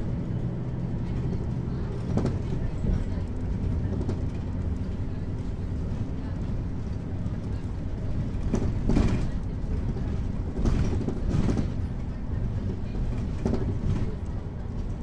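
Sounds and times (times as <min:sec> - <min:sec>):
bus engine and road drone: 0:00.0 - 0:15.0.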